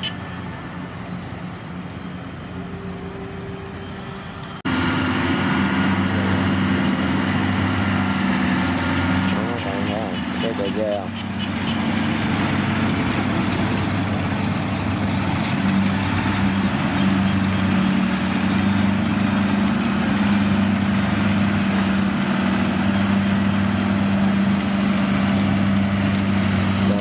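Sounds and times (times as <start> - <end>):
diesel engine humming: 0.0 - 27.0
machinery noise: 0.0 - 27.0.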